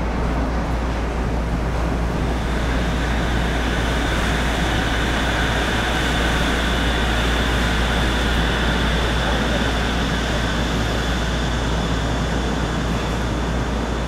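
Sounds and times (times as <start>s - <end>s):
faint high whine: 1.4s - 14.0s.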